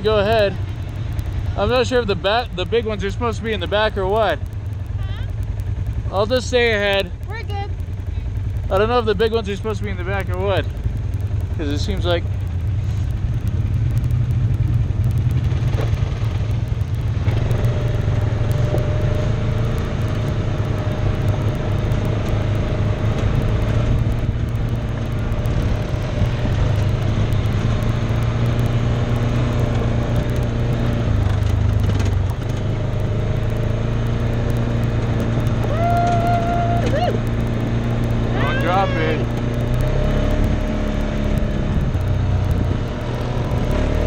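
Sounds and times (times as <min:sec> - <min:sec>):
off-road vehicle engine droning: 0:00.0 - 0:44.0.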